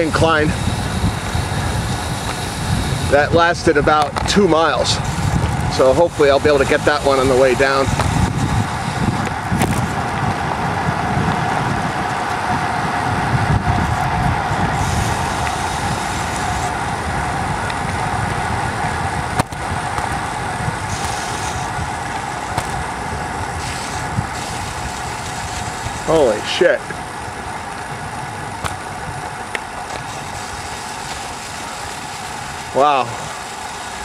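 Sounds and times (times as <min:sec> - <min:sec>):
steady hum: 0:00.0 - 0:34.0
wind buffeting microphone: 0:00.0 - 0:34.0.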